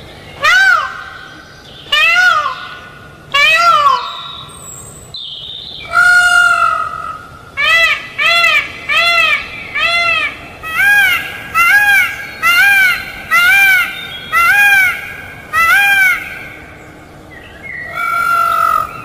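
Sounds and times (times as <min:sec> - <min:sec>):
peacock calling: 0:00.0 - 0:19.0.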